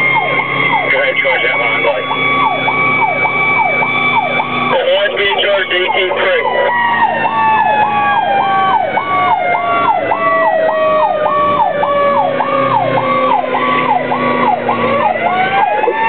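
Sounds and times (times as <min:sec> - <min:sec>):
electronic yelp siren: 0:00.0 - 0:16.0
slow falling siren tone: 0:00.0 - 0:16.0.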